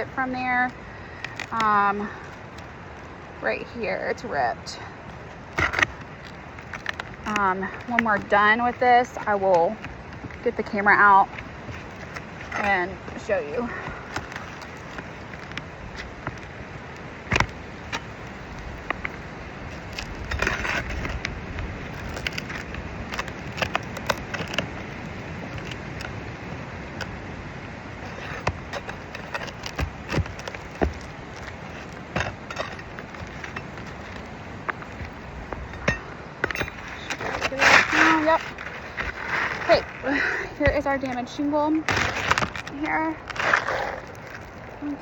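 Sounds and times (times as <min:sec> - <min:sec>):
pry bar scraping roof shingles: 0:00.0 - 0:45.0.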